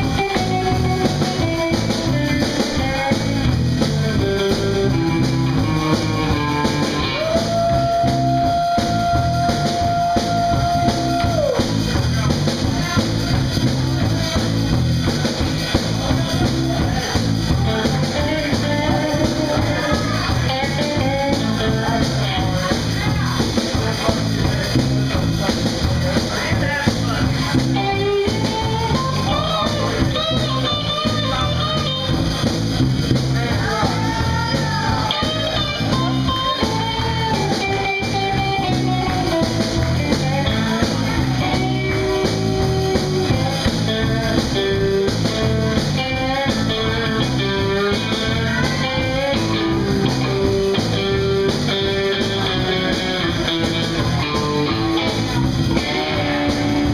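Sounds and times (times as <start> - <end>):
electric guitar: 0.0 - 56.9
repeating bass line: 0.0 - 56.9.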